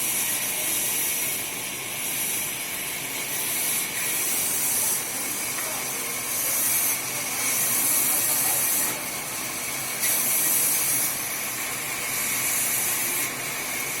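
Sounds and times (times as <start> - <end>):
sawmill machinery hissing: 0.0 - 14.0.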